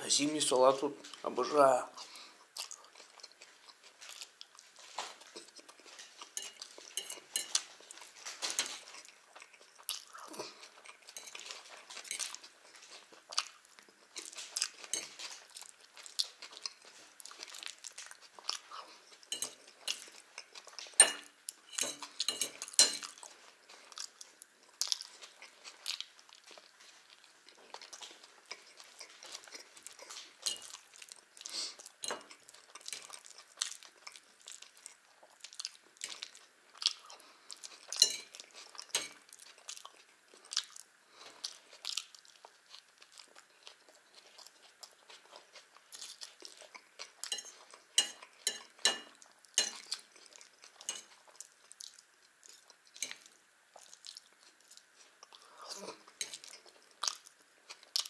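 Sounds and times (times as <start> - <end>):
chewing food: 1.0 - 58.0.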